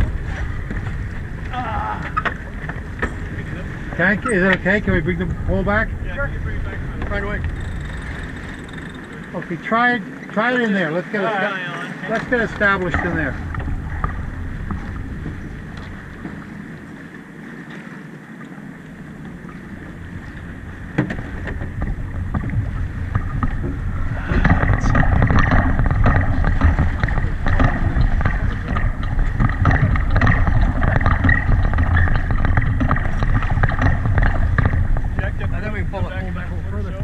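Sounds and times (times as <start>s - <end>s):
wind buffeting microphone: 0.0s - 11.1s, 11.9s - 37.0s
water noise: 0.0s - 37.0s.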